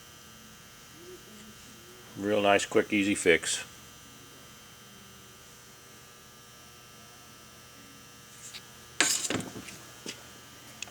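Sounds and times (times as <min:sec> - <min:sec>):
faint mains hum: 0:00.0 - 0:10.9.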